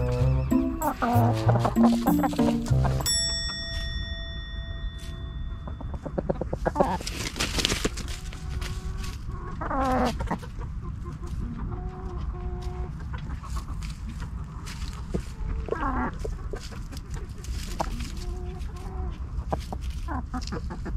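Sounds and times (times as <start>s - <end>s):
chickens clucking: 0.0s - 3.1s, 5.1s - 20.9s.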